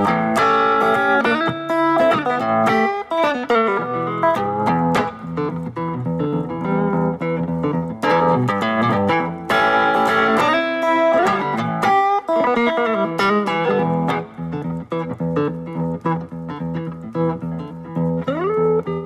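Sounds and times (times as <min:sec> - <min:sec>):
plucked guitar notes: 0:00.0 - 0:19.0.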